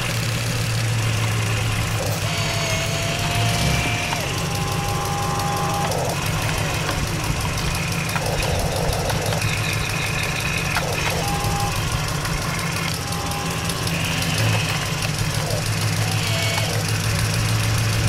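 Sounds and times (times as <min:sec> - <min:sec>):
electric motor whining: 0:00.0 - 0:18.0
low chugging drone: 0:00.0 - 0:18.0.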